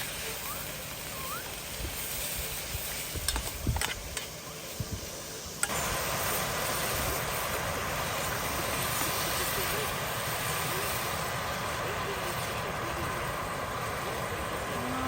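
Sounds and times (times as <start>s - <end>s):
food sizzling in a pan: 0.0s - 15.0s
loud steady hiss: 0.0s - 15.0s.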